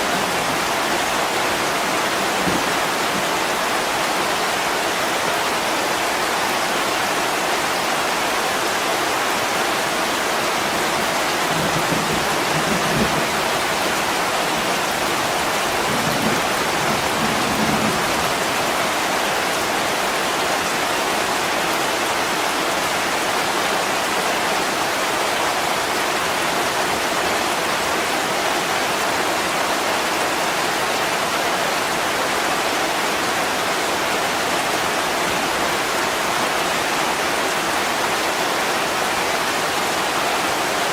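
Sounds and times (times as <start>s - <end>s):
heavy rain against a window: 0.0s - 40.9s.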